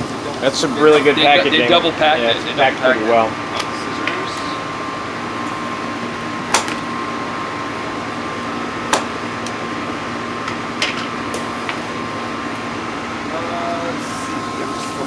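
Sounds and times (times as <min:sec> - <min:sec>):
air conditioner hum: 0:00.0 - 0:15.0.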